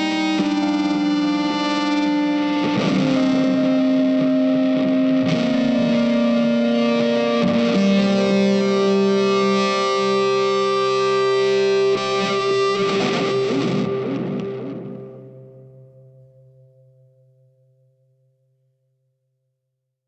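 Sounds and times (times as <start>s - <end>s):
music with long held notes: 0.0s - 18.2s.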